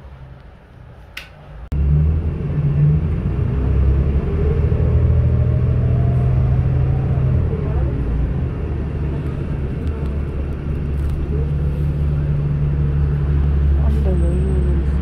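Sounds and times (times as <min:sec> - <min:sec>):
bus engine rumble: 0:00.0 - 0:15.0
rising engine whine: 0:01.7 - 0:15.0.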